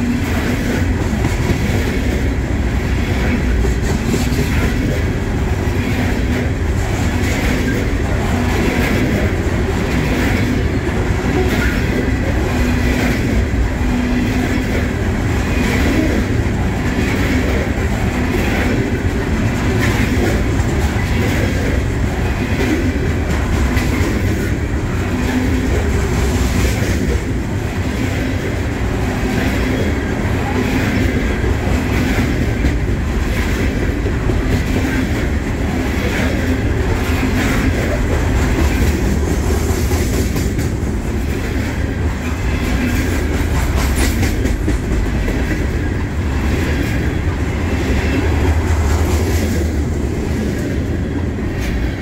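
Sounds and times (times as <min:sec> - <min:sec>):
train cars rolling past: 0:00.0 - 0:52.0.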